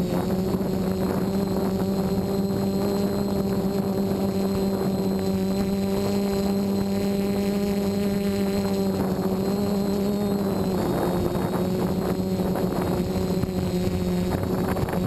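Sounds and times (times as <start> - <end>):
quadcopter propellers droning: 0.0 - 15.0.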